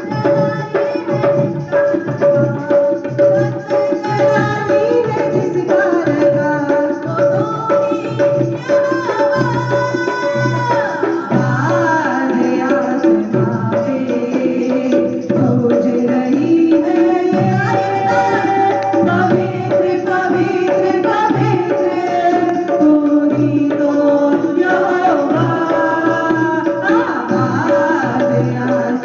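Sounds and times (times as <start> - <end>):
hand drums rhythm: 0.0 - 29.0.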